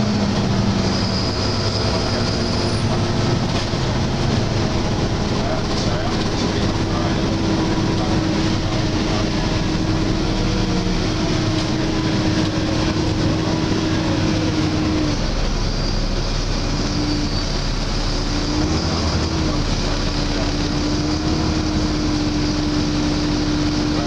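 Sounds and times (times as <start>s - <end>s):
bus diesel engine and road noise: 0.0s - 24.0s.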